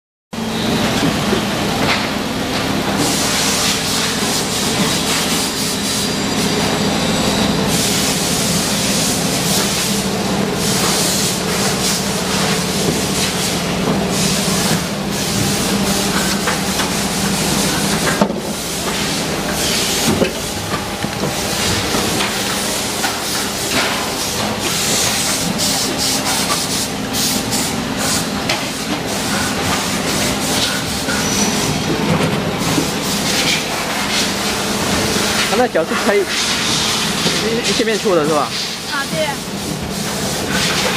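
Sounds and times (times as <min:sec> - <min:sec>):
machinery hum and hiss: 0:00.4 - 0:40.9.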